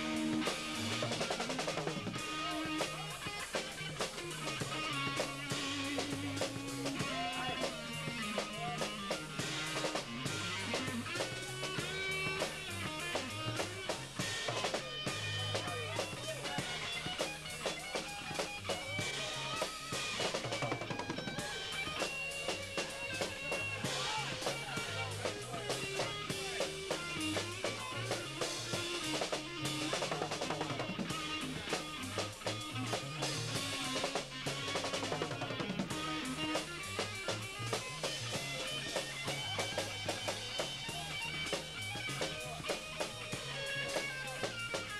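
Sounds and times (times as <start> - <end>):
drum kit steady beat: 0.0 - 44.9
electric guitar: 0.0 - 44.9.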